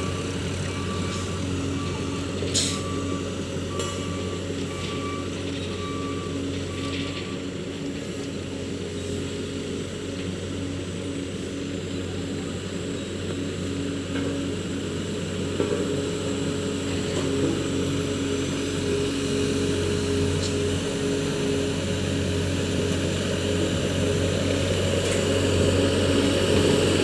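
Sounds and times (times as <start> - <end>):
diesel engine low hum: 0.0 - 27.0.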